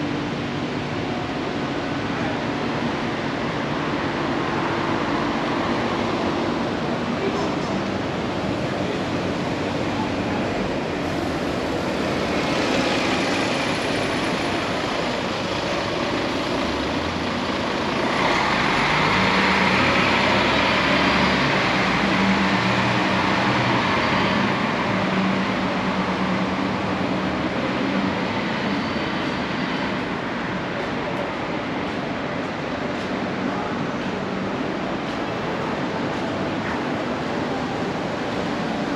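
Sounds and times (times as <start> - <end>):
street traffic noise: 0.0 - 38.9.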